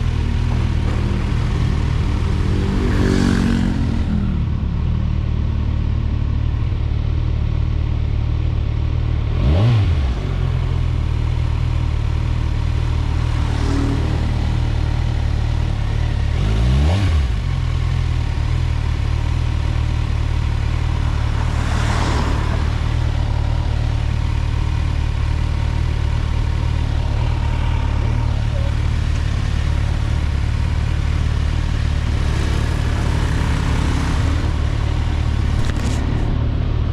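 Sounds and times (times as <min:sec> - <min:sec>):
motorcycle engine idling: 0:00.0 - 0:09.4, 0:10.1 - 0:36.9.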